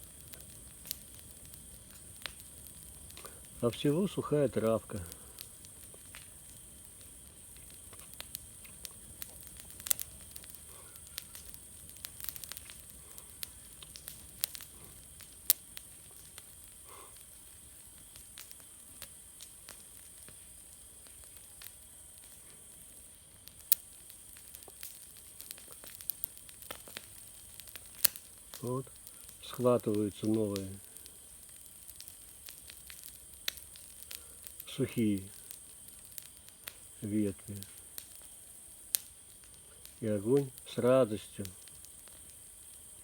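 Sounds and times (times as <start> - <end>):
bonfire hissing and crackling: 0.0 - 43.0.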